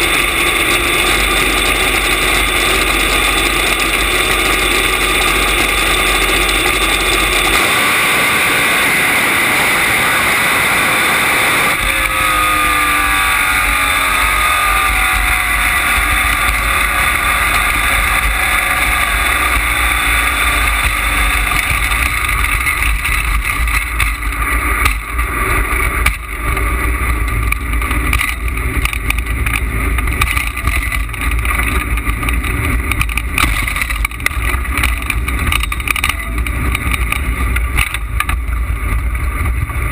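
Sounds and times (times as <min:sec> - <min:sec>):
dragster engine running hard: 0:00.0 - 0:39.9
wind and road rush: 0:00.0 - 0:39.9.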